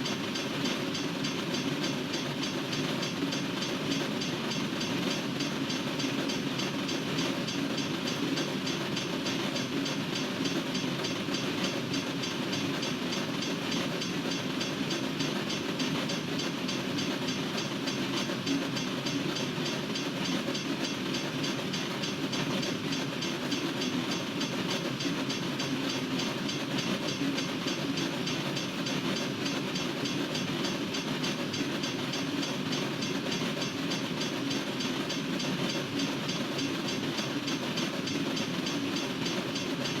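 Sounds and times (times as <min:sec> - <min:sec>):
freight train wheels on rails: 0:00.0 - 0:40.0.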